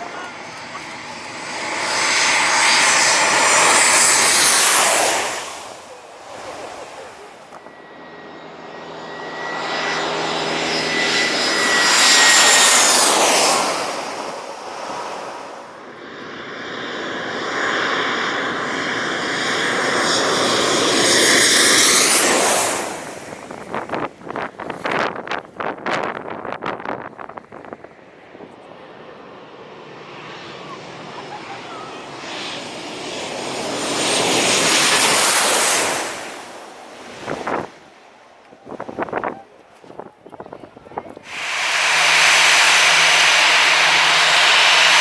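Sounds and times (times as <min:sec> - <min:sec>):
jet airliner engines passing: 0:00.0 - 0:45.0.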